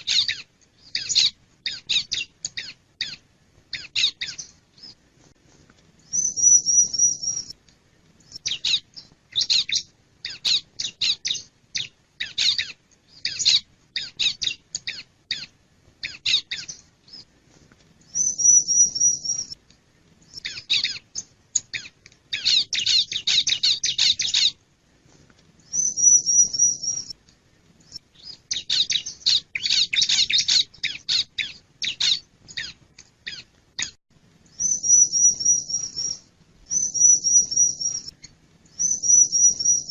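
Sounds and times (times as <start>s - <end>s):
bird trilling and chipping: 0.0s - 5.0s, 6.1s - 7.6s, 8.2s - 17.3s, 18.1s - 19.6s, 20.3s - 24.6s, 25.7s - 27.2s, 27.8s - 39.9s.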